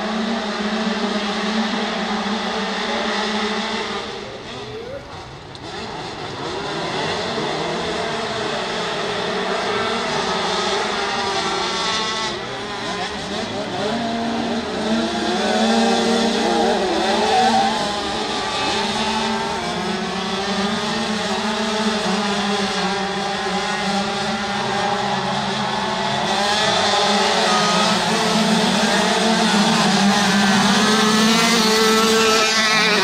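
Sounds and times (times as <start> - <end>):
kart engines racing: 0.0 - 33.0.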